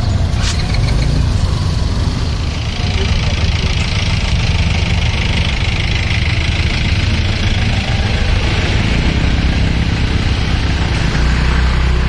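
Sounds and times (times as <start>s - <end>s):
vehicle engines idling: 0.0s - 12.0s.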